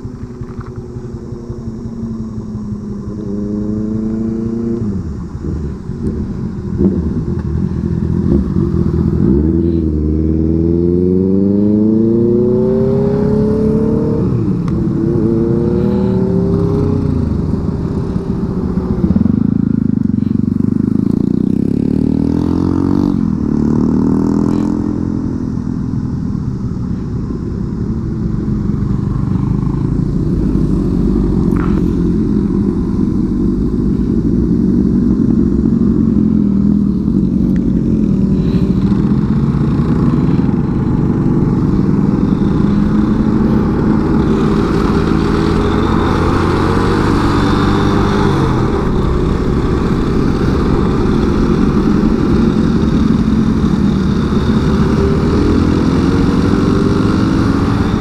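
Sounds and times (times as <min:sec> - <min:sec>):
motorcycle engines accelerating: 0:00.0 - 0:58.0.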